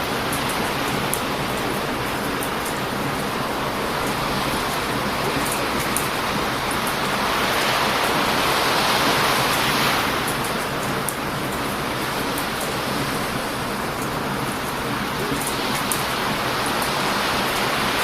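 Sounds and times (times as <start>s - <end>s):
ocean waves on a beach: 0.0s - 18.0s.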